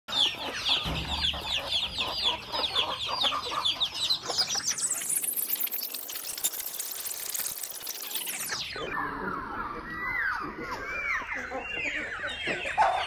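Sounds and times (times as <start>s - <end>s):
chickens peeping and clucking: 0.1s - 13.0s.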